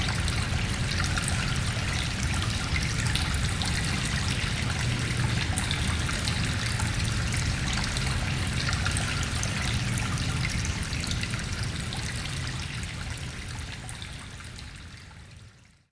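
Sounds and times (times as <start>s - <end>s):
stream trickling and splashing: 0.0s - 15.9s.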